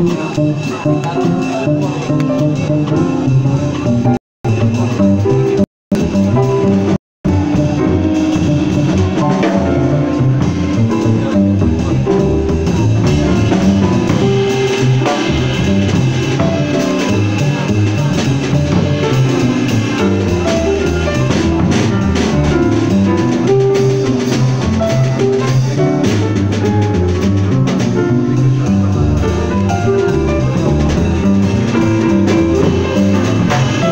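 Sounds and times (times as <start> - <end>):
drum kit and cymbals: 0.0 - 33.9
plucked double bass: 0.0 - 33.9.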